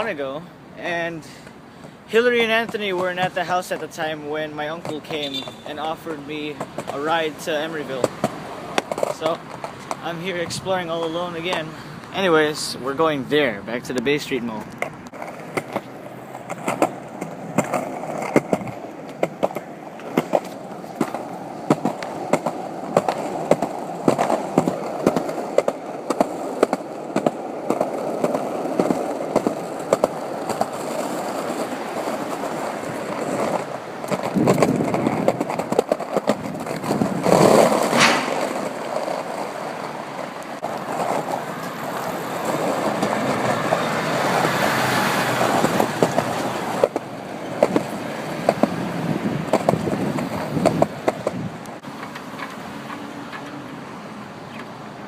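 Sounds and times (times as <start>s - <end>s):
skateboard wheels rolling on pavement: 0.0s - 55.0s
skateboard clacking over joints: 0.8s - 12.6s, 13.8s - 54.8s.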